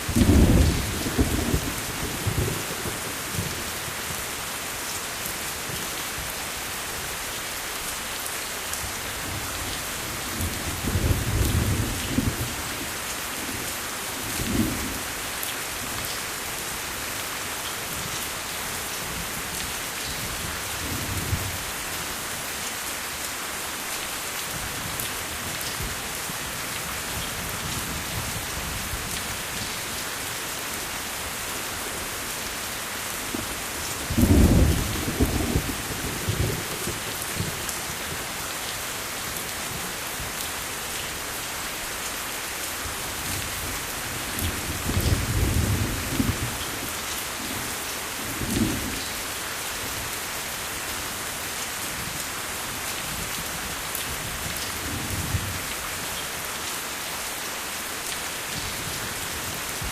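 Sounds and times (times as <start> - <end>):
steady rainfall hissing: 0.0 - 59.9.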